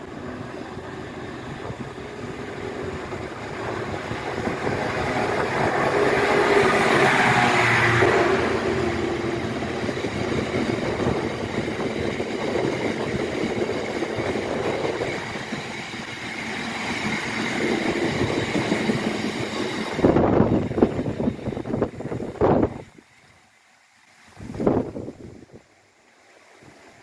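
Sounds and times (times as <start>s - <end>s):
wind buffeting microphone: 0.0s - 23.1s, 24.2s - 25.7s.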